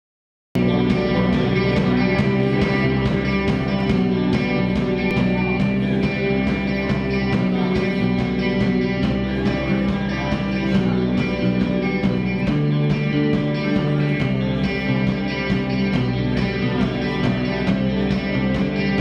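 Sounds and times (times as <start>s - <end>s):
guitars: 0.6s - 19.0s
steady drum beat: 0.6s - 19.0s.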